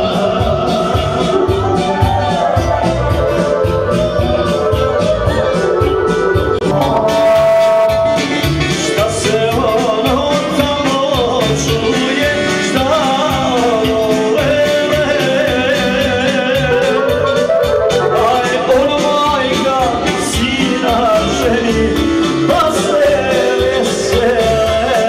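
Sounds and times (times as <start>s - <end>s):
keyboard lead melody: 0.0s - 25.0s
programmed beat: 0.0s - 25.0s.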